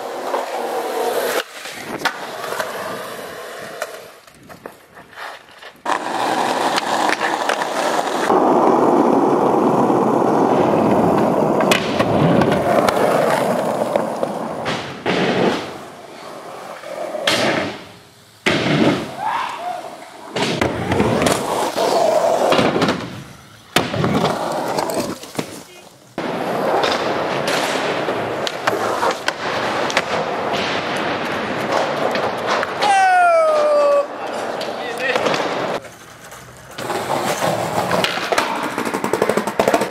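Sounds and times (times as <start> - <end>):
skateboard clacking on ground: 0.0 - 16.0, 20.0 - 39.9
skateboard wheels rolling on concrete: 0.0 - 39.9.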